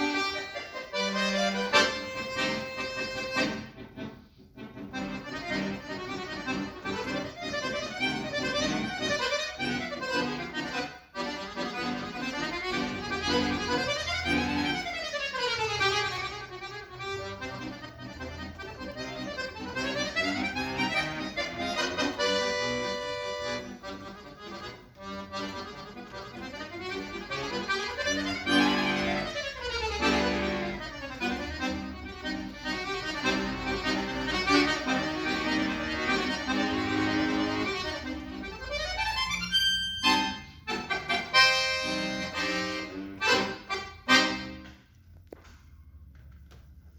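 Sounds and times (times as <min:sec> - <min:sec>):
solo accordion playing: 0:00.0 - 0:45.0.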